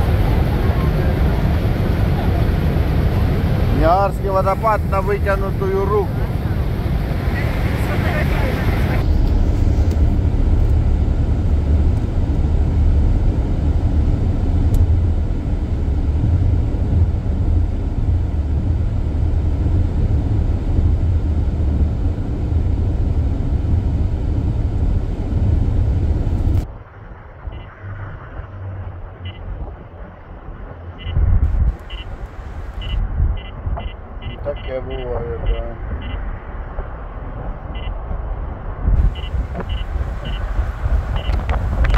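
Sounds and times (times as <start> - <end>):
car road and wind noise: 0.0 - 41.9.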